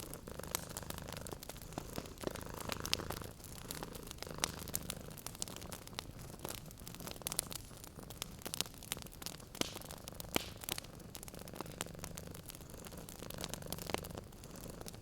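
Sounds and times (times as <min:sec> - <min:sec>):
cat purring: 0:00.0 - 0:15.0
wood fire crackling: 0:00.0 - 0:15.0.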